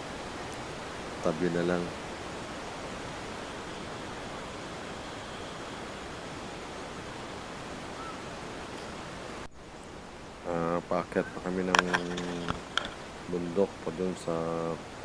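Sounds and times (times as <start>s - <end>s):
ocean surf rushing: 0.0s - 15.0s.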